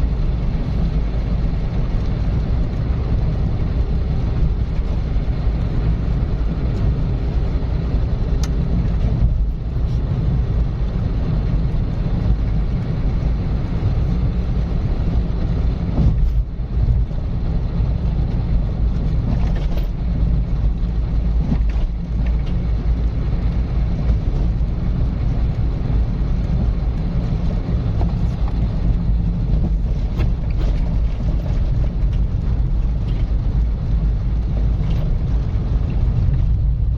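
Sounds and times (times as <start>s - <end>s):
car engine and tyre noise: 0.0s - 36.9s.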